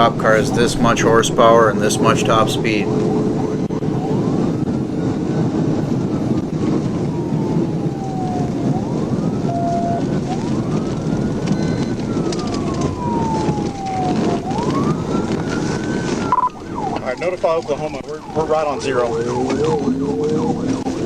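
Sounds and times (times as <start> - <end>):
engine tyre and wind rush: 0.0 - 21.0
police siren wailing: 0.0 - 21.0.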